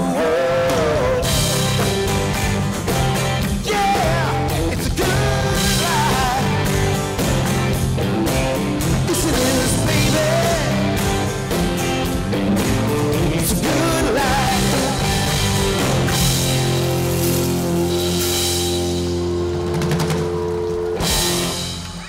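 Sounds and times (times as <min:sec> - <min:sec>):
live country-rock band playing: 0:00.0 - 0:22.0.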